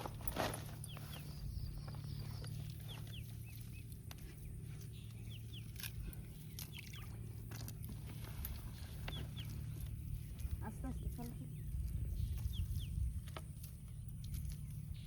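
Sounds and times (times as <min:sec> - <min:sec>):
steady low hum: 0:00.0 - 0:15.0
bird chirping: 0:00.7 - 0:15.0.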